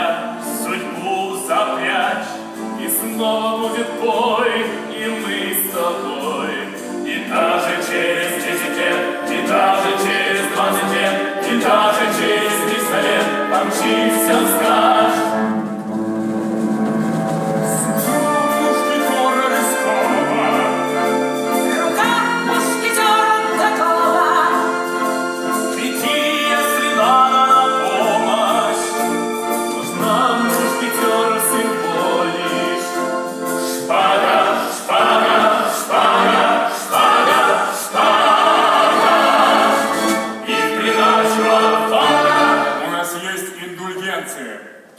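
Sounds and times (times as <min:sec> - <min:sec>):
people singing a song: 0:00.0 - 0:16.0, 0:17.0 - 0:43.3
music accompaniment chords: 0:00.0 - 0:42.9.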